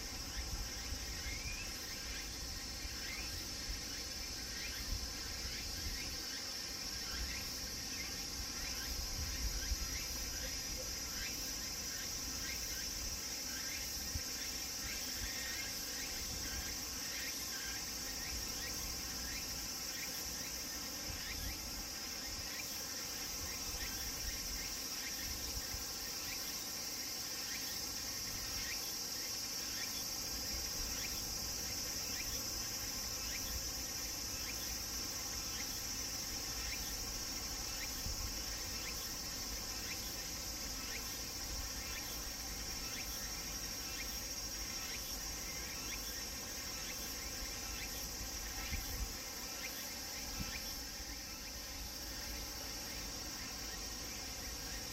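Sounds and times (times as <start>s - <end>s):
cicadas droning: 0.0s - 54.9s.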